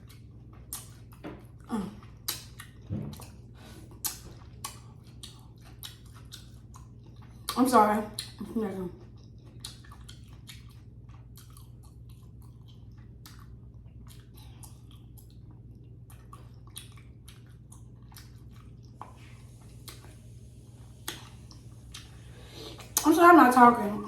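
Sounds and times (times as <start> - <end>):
wet chewing and mouth smacks: 0.0 - 23.1
steady low hum: 0.0 - 24.0.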